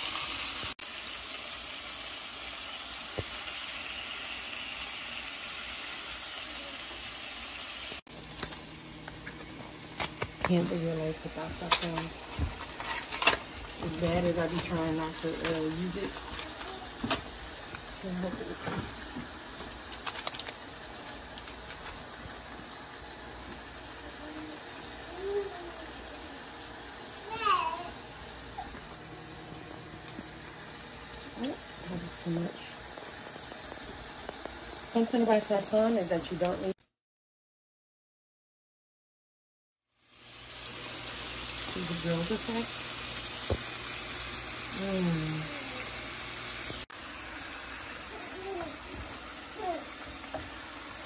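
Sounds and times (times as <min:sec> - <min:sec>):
food sizzling in a frying pan: 0:00.0 - 0:36.8, 0:39.9 - 0:51.0.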